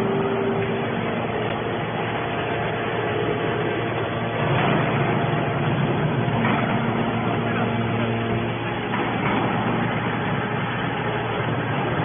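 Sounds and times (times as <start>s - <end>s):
hydraulic baler droning: 0.0s - 12.0s.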